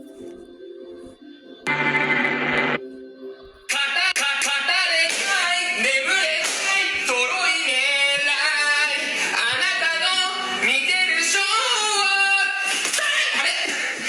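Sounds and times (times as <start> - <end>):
people singing with music: 0.0 - 14.0.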